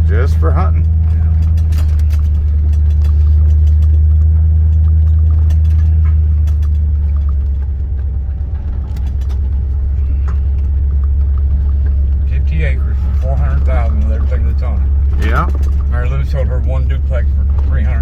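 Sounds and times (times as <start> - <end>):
small rattles and clicks: 0.0 - 18.0
vehicle engine and tyres droning: 0.0 - 18.0.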